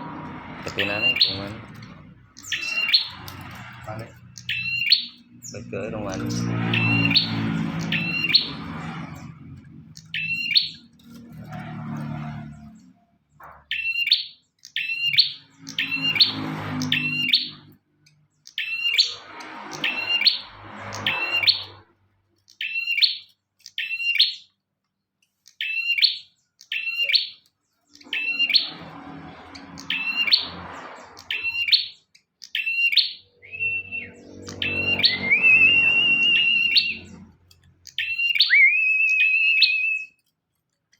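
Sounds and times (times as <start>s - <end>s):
bird chirping: 0.0s - 21.8s, 22.4s - 40.2s
bird trill: 0.6s - 12.9s, 13.6s - 21.8s, 22.4s - 24.6s, 25.4s - 40.2s.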